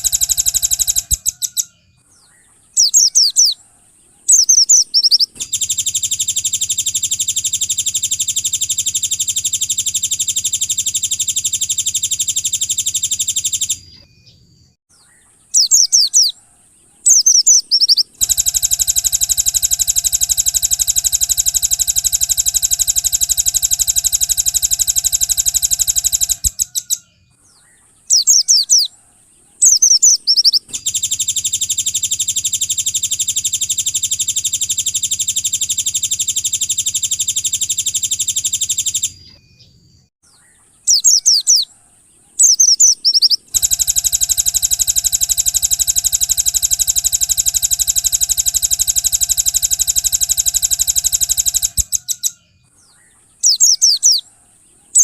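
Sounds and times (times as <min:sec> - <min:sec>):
rapid buzzing bird trills: 0:00.0 - 0:14.0, 0:15.2 - 0:27.2, 0:28.0 - 0:39.3, 0:40.6 - 0:55.0
songbird descending chirps: 0:00.0 - 0:41.7, 0:42.4 - 0:54.3.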